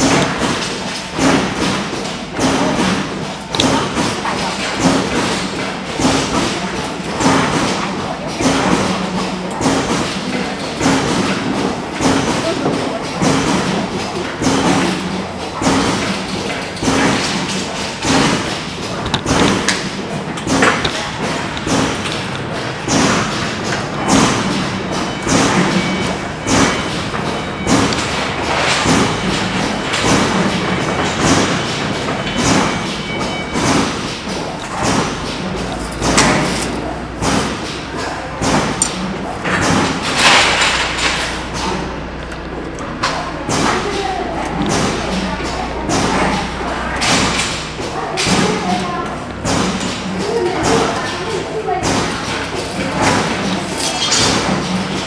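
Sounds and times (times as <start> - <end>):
continuous hum: 0.0 - 55.0.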